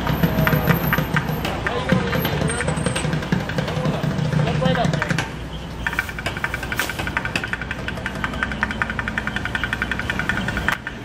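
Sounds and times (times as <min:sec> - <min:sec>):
engine humming: 0:00.0 - 0:11.0
rapid regular ticking: 0:00.0 - 0:11.0.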